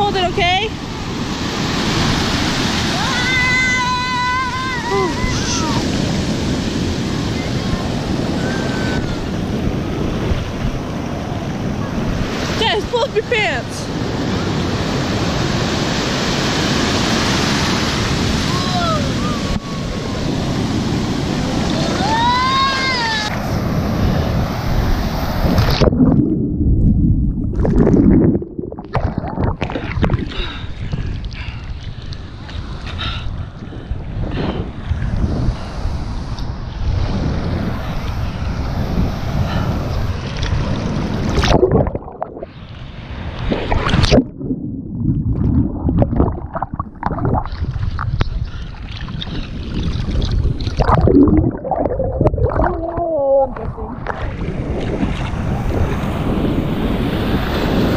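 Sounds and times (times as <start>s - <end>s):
rushing water: 0.0s - 33.0s, 36.2s - 57.9s
wind noise on microphone: 0.0s - 57.9s.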